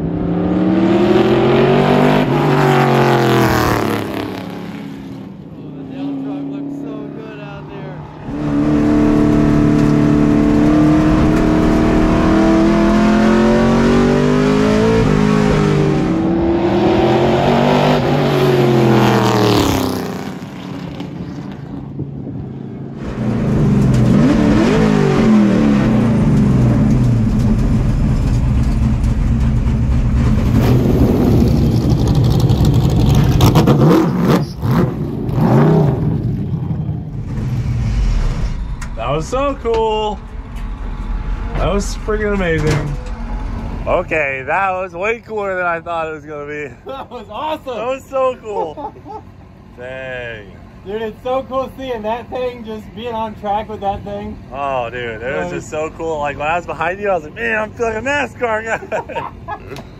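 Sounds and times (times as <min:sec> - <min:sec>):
race truck engine from inside cab: 0:00.0 - 0:20.6, 0:21.4 - 0:59.9.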